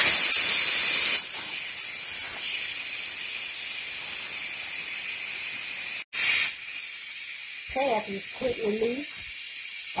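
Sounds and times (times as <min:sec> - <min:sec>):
pressure cooker steam hissing: 0:00.0 - 0:10.0.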